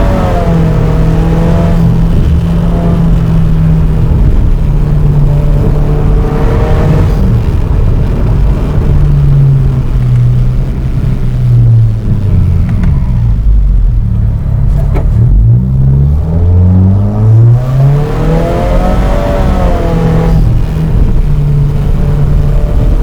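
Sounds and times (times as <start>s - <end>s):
car engine under load: 0.0s - 23.0s.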